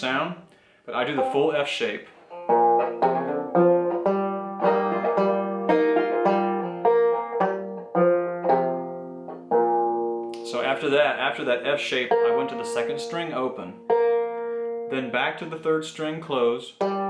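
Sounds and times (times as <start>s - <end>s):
banjo plucked notes: 1.0s - 17.0s.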